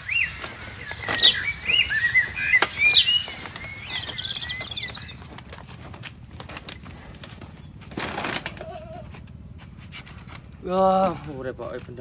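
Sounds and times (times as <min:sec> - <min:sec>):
songbirds chirping and whistling: 0:00.0 - 0:11.1.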